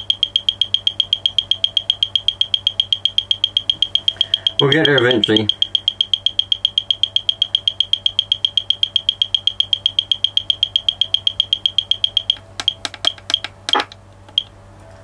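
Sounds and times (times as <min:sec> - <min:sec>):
high-pitched buzzer beeping: 0:00.0 - 0:13.8.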